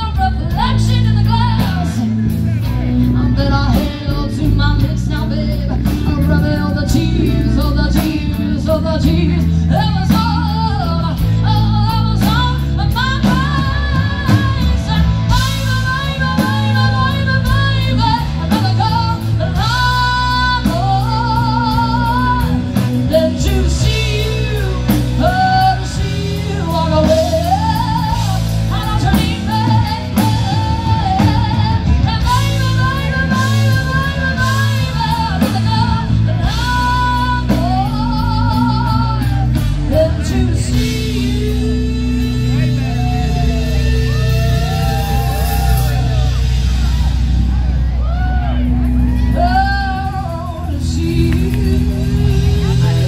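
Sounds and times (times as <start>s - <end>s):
person singing: 0.0s - 47.0s, 48.4s - 53.0s
drums: 0.0s - 53.0s
guitar: 0.0s - 53.0s.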